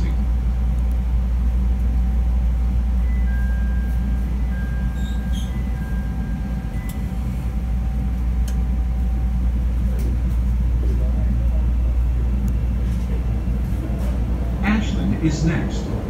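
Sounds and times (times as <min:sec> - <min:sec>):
rail car equipment hum: 0:00.0 - 0:16.0.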